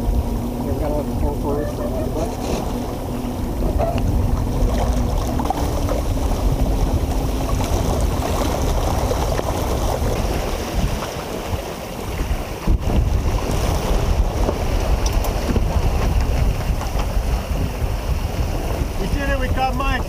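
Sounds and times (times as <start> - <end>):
water rushing past hull: 0.0 - 20.0
wind buffeting microphone: 0.0 - 20.0.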